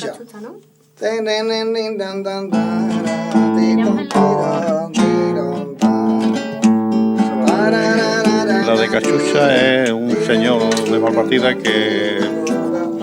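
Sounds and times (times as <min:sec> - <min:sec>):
acoustic guitars strumming chords: 0:00.0 - 0:13.0.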